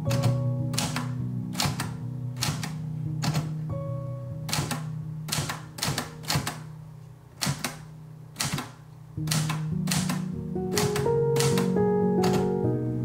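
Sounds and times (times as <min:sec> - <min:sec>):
background piano music: 0:00.0 - 0:13.0
typewriter key clacks: 0:00.1 - 0:03.6, 0:04.5 - 0:06.7, 0:07.4 - 0:12.6.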